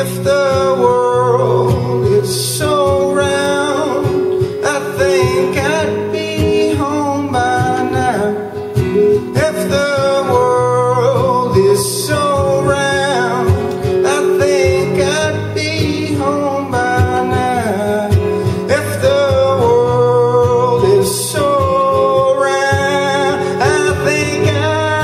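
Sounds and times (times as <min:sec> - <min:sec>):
acoustic guitar chords: 0:00.0 - 0:25.0
man singing: 0:00.0 - 0:25.0.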